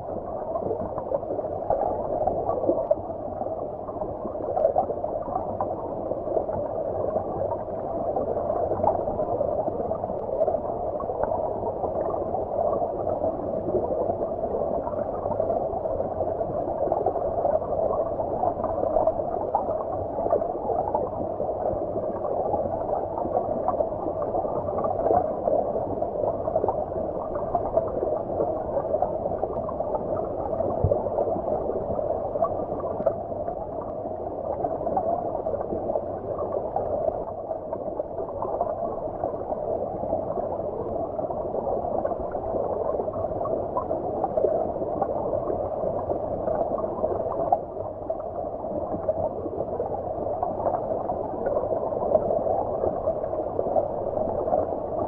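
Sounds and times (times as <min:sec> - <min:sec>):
muffled stream water rushing: 0:00.0 - 0:55.0.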